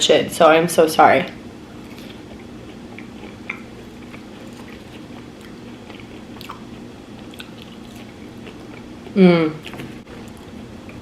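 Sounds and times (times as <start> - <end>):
steady low hum: 0.0 - 11.0
person chewing food: 1.8 - 11.0.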